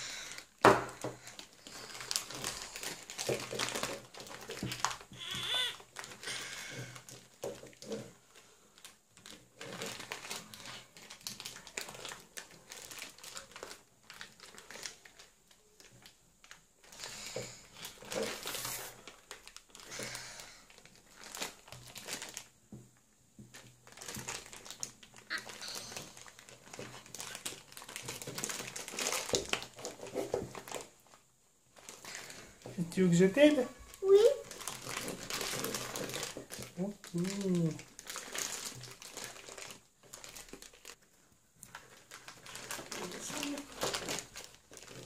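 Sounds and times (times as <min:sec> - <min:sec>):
plastic wrapper crinkling: 0:00.0 - 0:45.0.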